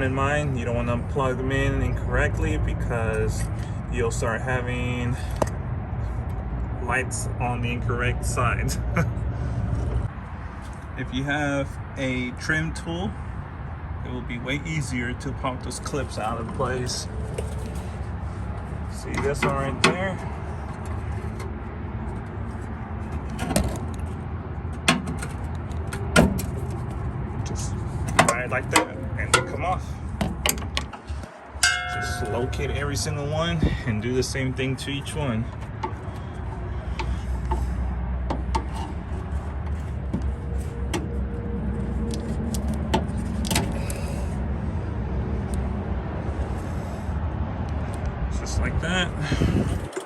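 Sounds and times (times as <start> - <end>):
steady low rumble: 0.0 - 49.9.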